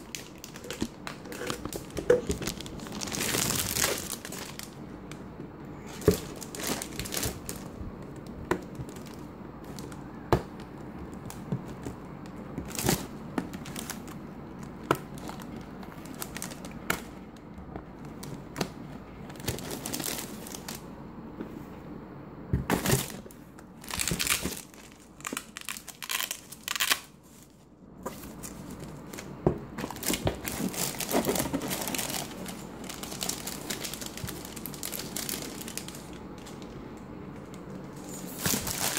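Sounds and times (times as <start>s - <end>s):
plastic wrapping crinkling: 0.0s - 20.8s, 22.7s - 38.9s.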